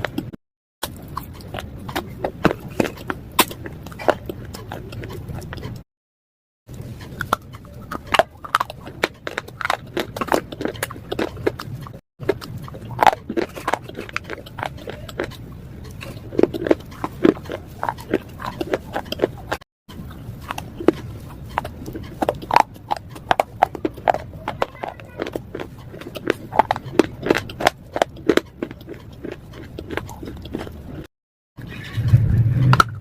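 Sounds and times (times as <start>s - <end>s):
teeth crunching slate: 0.0s - 5.8s, 6.7s - 31.1s.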